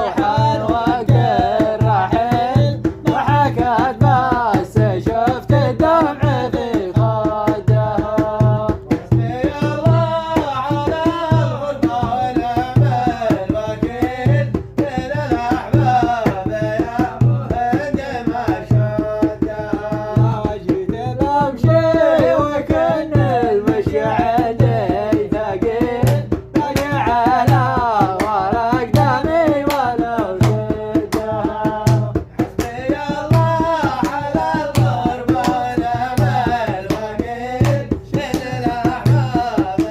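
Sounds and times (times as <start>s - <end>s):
low drum beat: 0.0s - 39.9s
person singing: 0.0s - 39.9s.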